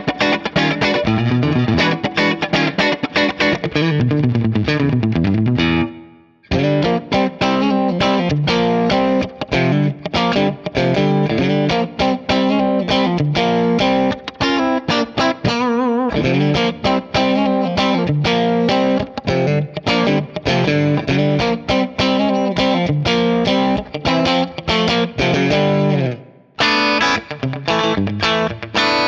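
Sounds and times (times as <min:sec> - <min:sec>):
clean electric guitar playing: 0:00.0 - 0:29.0.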